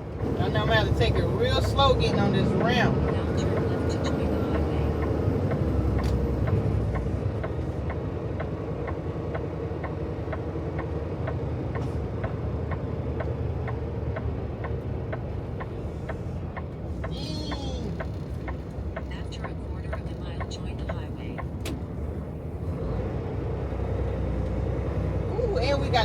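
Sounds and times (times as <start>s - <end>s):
turn signal ticking: 0.0s - 22.8s, 23.6s - 26.0s
road noise: 0.0s - 26.0s
truck engine drone: 0.0s - 26.0s.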